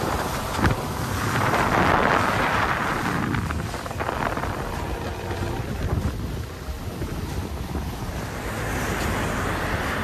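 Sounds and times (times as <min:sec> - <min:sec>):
water rushing along hull: 0:00.0 - 0:10.0
wind buffeting microphone: 0:00.0 - 0:10.0.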